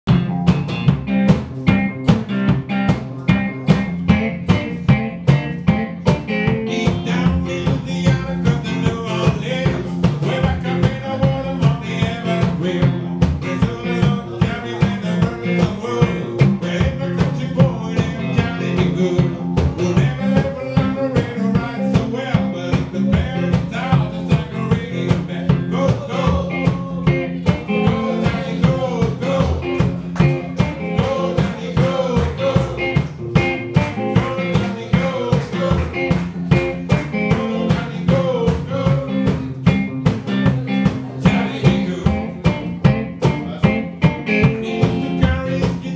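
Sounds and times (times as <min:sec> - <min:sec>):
electric guitar: 0:00.0 - 0:45.9
washtub bass thumping: 0:00.0 - 0:45.9
person singing: 0:06.0 - 0:45.9.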